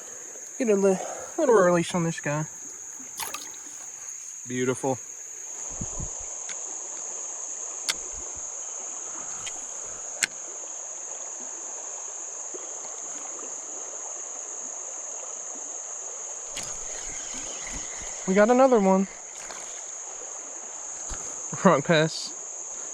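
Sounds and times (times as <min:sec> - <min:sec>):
creek water running: 0:00.0 - 0:22.9
high-pitched insect drone: 0:00.0 - 0:22.9.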